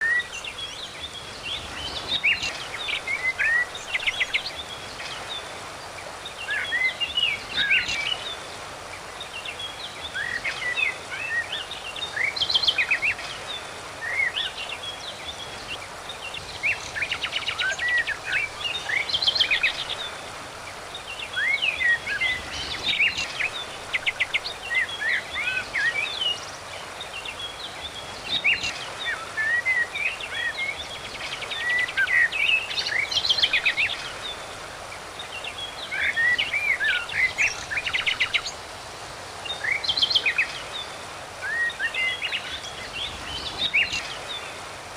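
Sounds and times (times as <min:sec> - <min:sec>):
birds chirping and trilling: 0:00.0 - 0:38.7, 0:39.3 - 0:44.7
background hiss: 0:00.0 - 0:44.9.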